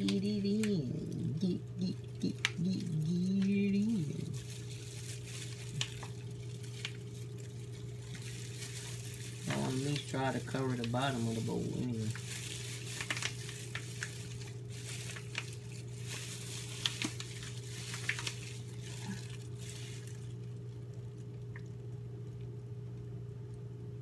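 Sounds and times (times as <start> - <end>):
low electrical hum: 0.0 - 24.0
plastic packaging crinkling: 2.0 - 21.7.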